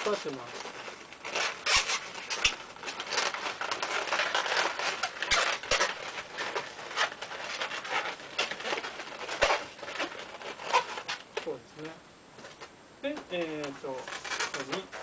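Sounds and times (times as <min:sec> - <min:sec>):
balloons rubbing and squeaking: 0:00.0 - 0:11.6, 0:13.4 - 0:15.0.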